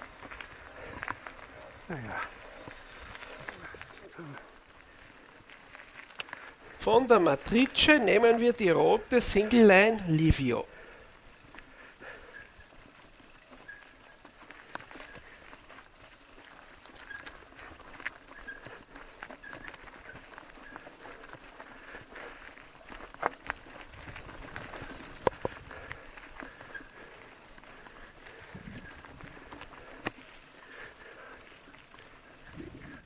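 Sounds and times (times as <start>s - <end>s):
bike rattling over stones: 0.0s - 33.0s.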